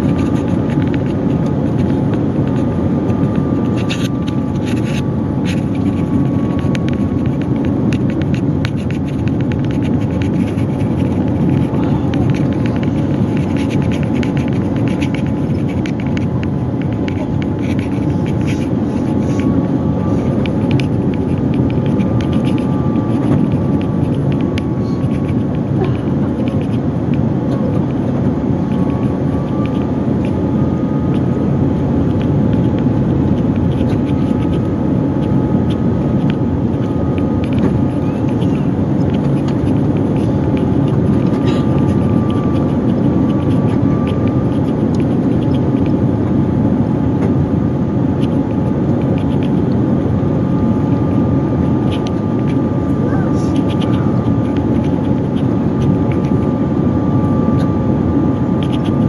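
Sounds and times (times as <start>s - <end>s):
low rumble of airflow and engines: 0.0s - 59.0s
whine sliding in pitch: 0.0s - 59.0s.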